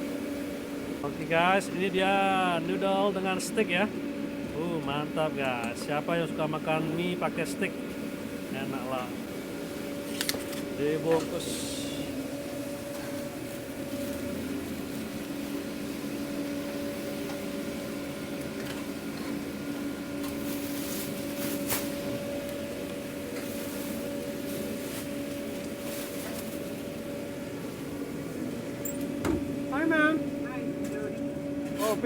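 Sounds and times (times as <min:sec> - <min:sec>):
kitchen machinery humming: 0:00.0 - 0:32.0.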